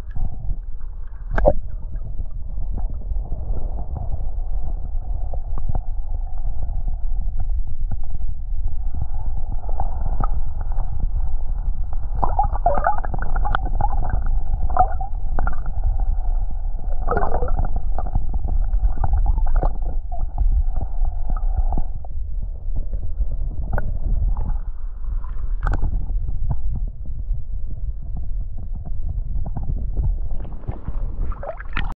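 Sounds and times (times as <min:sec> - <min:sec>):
underwater sloshing and gurgling: 0:00.0 - 0:31.9.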